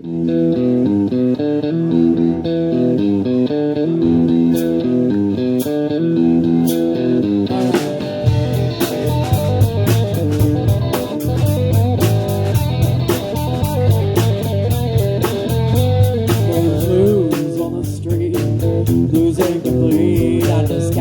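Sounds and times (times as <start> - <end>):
guitar riff: 0.0 - 21.0
rock band playing: 0.1 - 21.0.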